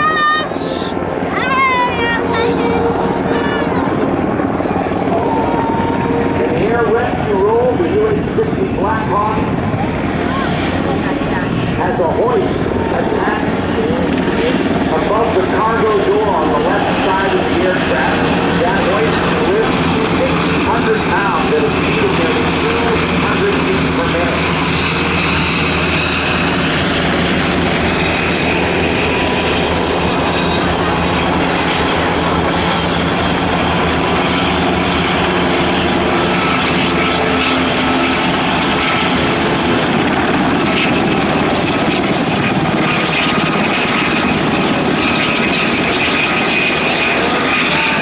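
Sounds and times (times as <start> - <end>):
helicopters flying by: 0.0 - 48.0.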